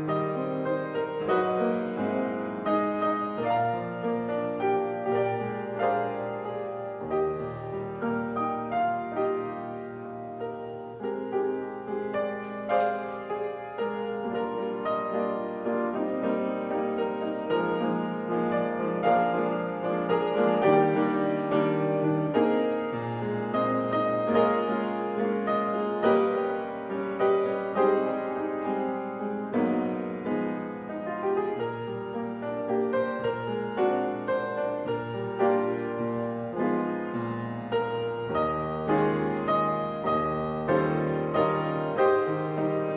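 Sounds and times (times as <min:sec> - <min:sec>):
slow solo piano: 0:00.0 - 0:42.9.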